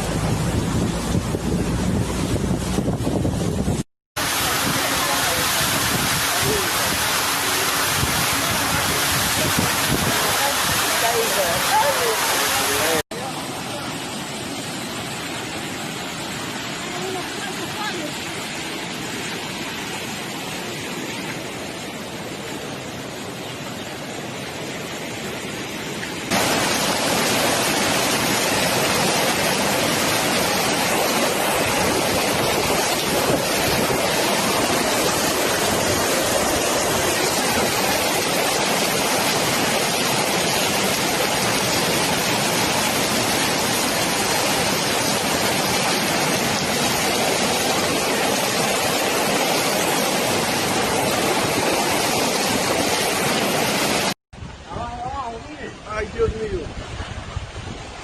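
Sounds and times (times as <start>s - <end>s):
rushing floodwater roar: 0.0s - 58.0s.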